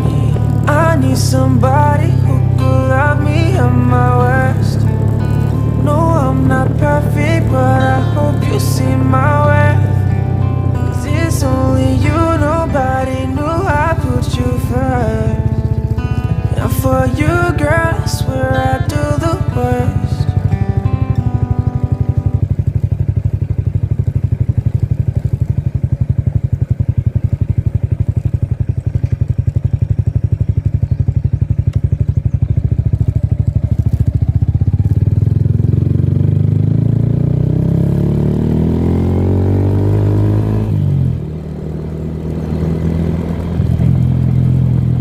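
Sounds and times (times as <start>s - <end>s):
engine running and revving: 0.0s - 45.0s.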